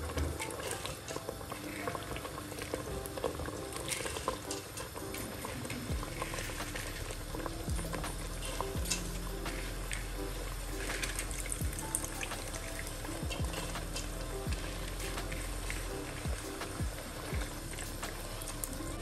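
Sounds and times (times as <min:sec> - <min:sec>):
dry rice pouring: 0:00.0 - 0:19.0
stew bubbling in a pot: 0:00.0 - 0:19.0.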